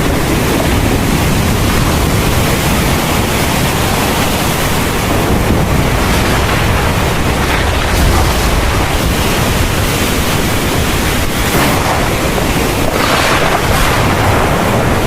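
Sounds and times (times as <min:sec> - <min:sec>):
heavy rain pouring: 0:00.0 - 0:15.0
low thunder rumble: 0:00.0 - 0:15.0.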